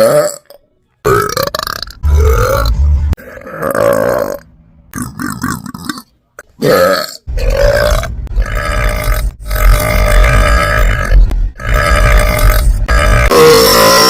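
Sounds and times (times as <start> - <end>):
woman belching: 0.0 - 2.6, 3.2 - 14.0.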